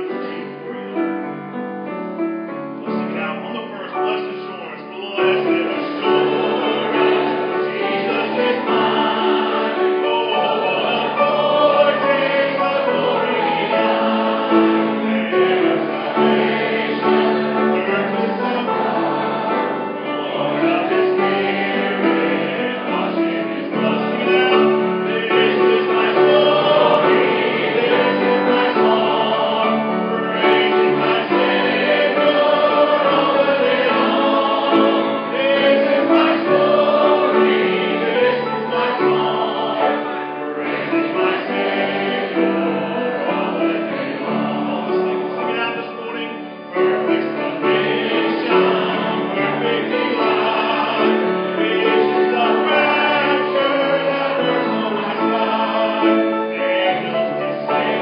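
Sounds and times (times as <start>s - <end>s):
church choir singing a hymn: 0.0s - 58.0s
piano accompaniment: 0.0s - 58.0s.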